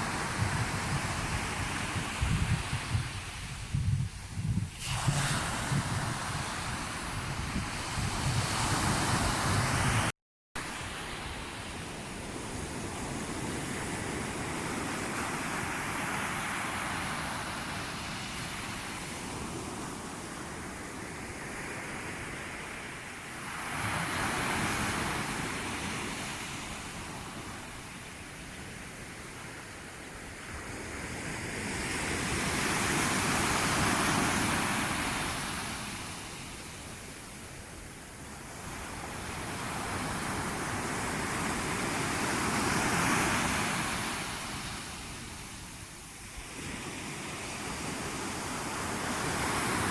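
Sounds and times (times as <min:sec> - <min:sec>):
sea waves washing ashore: 0:00.0 - 0:49.9.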